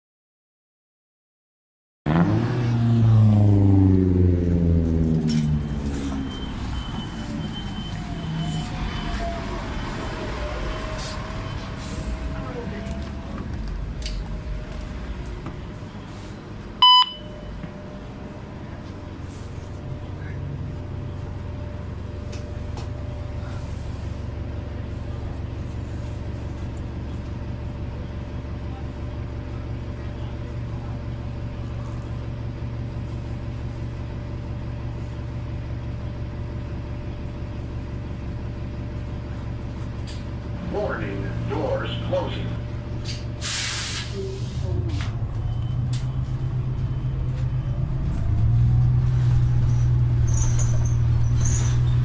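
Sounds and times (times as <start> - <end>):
bus engine slowing and rumbling: 2.1 - 52.0.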